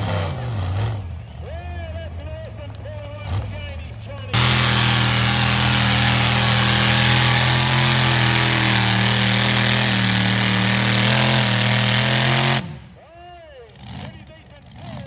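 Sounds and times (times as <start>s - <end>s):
tractor engine running under load: 1.1s - 15.0s.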